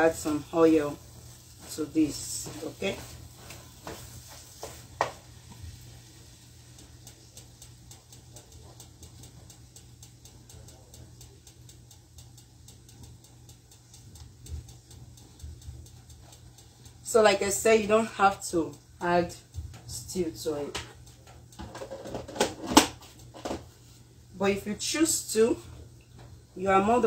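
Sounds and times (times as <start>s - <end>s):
wooden spoon knocking in frying pan: 0.0s - 17.1s, 18.0s - 23.8s
fast even ticking: 0.0s - 25.9s
frying sizzle: 0.0s - 27.0s
low steady hum: 0.0s - 27.0s.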